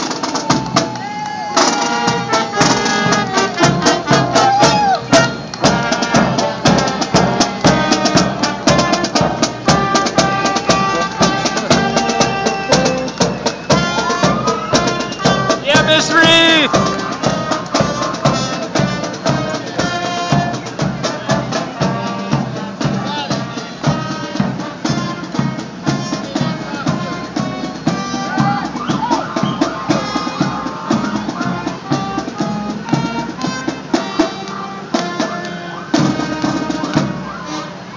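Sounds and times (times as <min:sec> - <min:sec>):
drums beating: 0:00.0 - 0:37.9
marching band playing: 0:00.0 - 0:37.9.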